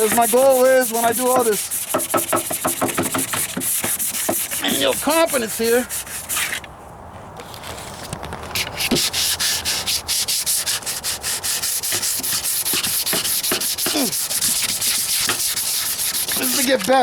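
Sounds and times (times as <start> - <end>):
sandpaper scraping back and forth: 0.0 - 6.6, 7.7 - 17.0.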